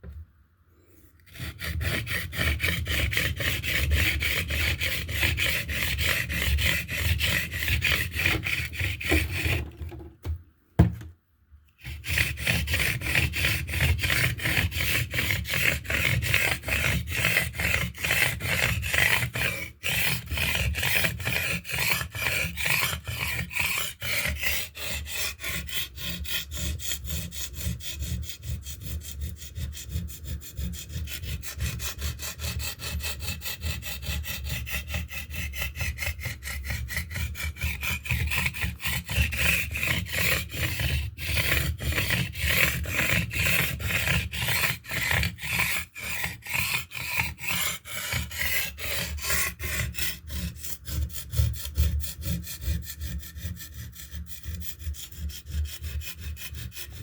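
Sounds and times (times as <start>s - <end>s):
blade rasping on sharpening stone: 1.3s - 9.7s, 11.8s - 57.0s.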